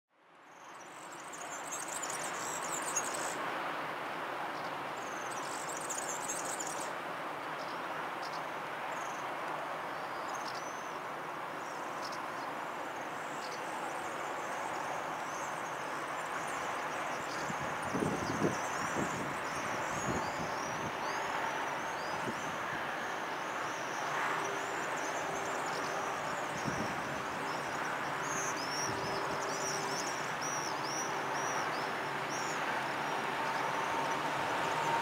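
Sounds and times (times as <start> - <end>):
background noise rush: 0.3 - 35.0.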